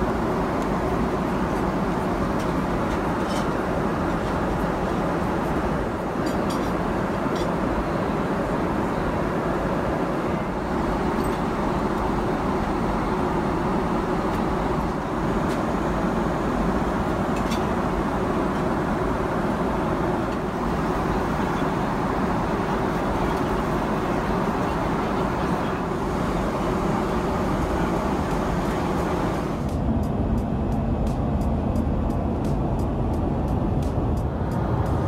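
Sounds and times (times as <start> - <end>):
airplane cabin rushing noise: 0.0 - 35.0.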